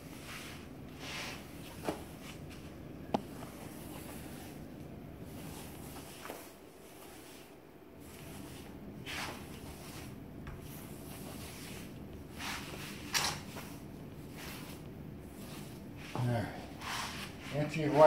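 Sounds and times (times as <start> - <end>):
sponge swishing on tile: 0.0 - 2.7, 3.5 - 18.0.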